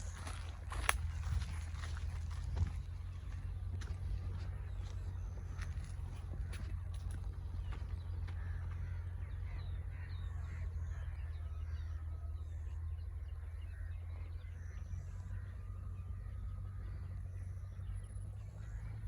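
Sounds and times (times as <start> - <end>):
birds chirping: 0.0 - 19.0
low rumble: 0.0 - 19.0.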